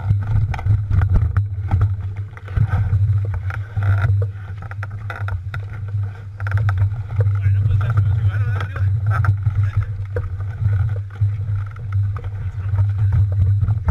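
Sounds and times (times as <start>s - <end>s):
mountain bike rumbling on rough trail: 0.0s - 13.9s.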